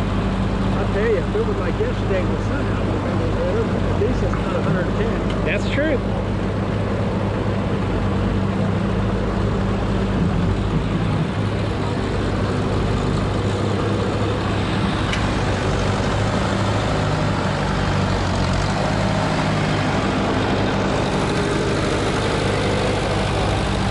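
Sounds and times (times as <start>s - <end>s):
heavy machinery engine idling: 0.0s - 23.9s.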